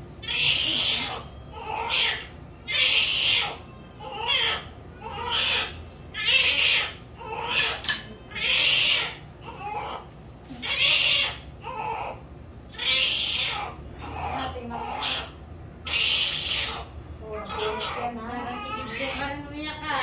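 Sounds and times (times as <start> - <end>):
baby crying: 0.2 - 16.9, 17.5 - 19.3.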